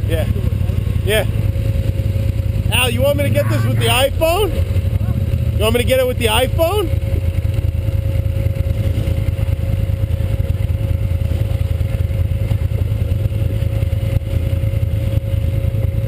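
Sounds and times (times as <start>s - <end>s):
atv engine droning: 0.0s - 16.0s.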